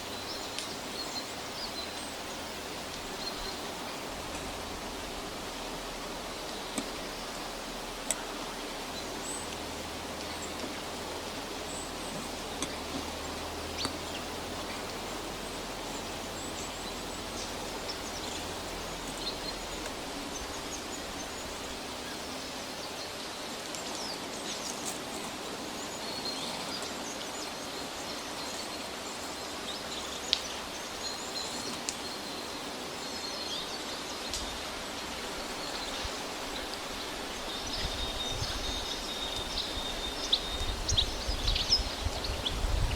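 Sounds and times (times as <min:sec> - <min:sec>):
steady forest hiss: 0:00.0 - 0:42.9.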